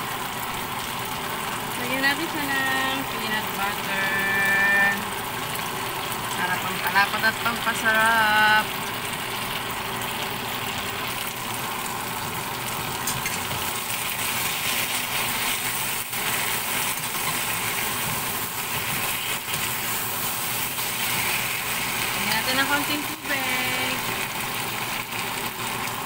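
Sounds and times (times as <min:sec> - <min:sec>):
vegetables sizzling in wok: 0:00.0 - 0:26.0.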